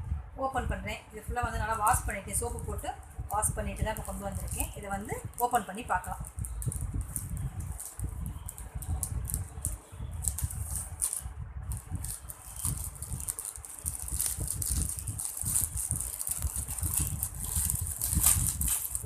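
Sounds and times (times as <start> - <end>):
packaging crinkling and rustling: 3.3 - 19.0.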